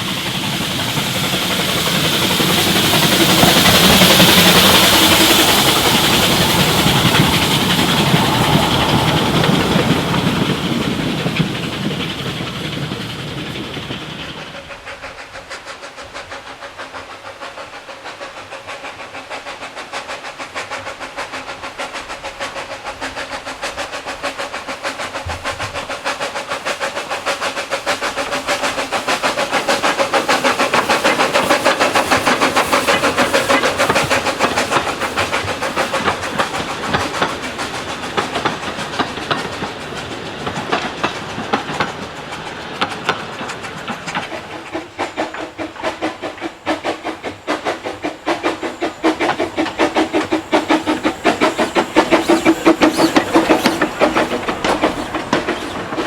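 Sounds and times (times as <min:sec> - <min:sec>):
model train wheels clicking: 0:00.0 - 0:56.0.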